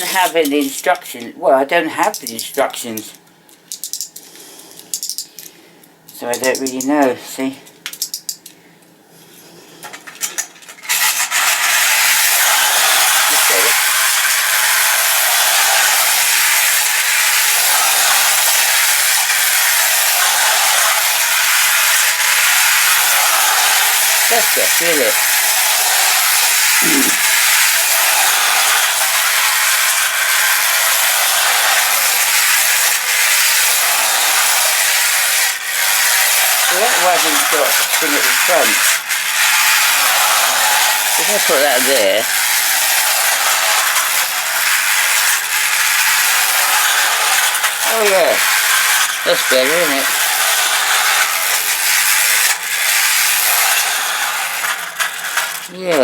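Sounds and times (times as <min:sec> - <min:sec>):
toy train whirring on metal track: 0:00.0 - 0:08.6, 0:09.2 - 0:56.0
tin toy parts clicking: 0:02.0 - 0:05.5, 0:06.1 - 0:06.9, 0:07.7 - 0:08.6, 0:09.8 - 0:56.0.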